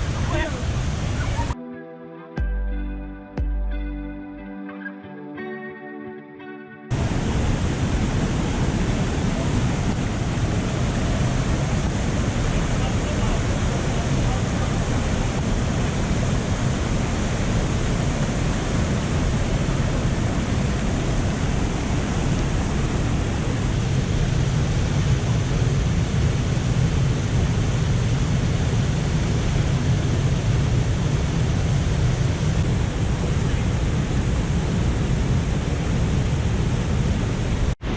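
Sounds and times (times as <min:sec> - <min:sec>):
waterfall rushing: 0:00.0 - 0:01.6, 0:06.9 - 0:37.9.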